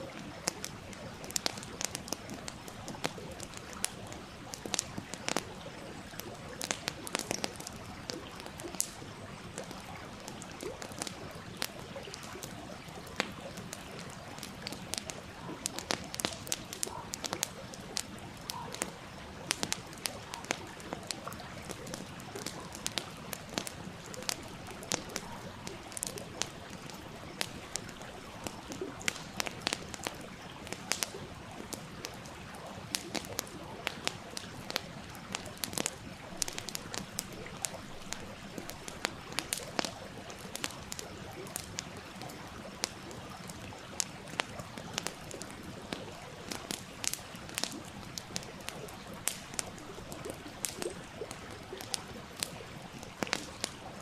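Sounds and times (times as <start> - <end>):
stream rushing and burbling: 0.0 - 54.0
wood fire crackling and popping: 0.0 - 54.0.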